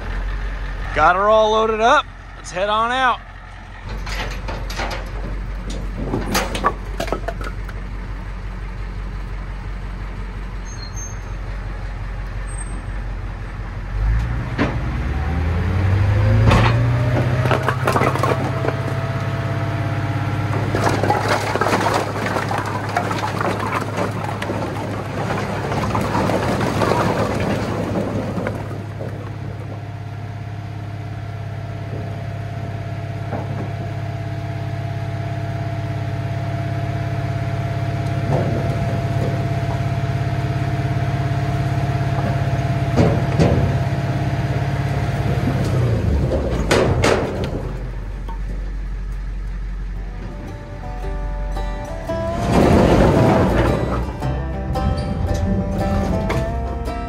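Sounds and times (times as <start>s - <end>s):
truck engine running and revving: 7.6s - 57.0s.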